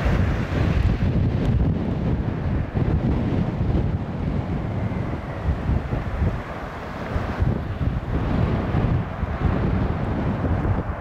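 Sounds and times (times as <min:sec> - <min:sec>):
jet engines rumbling: 0:00.0 - 0:11.0
wind buffeting microphone: 0:00.0 - 0:11.0.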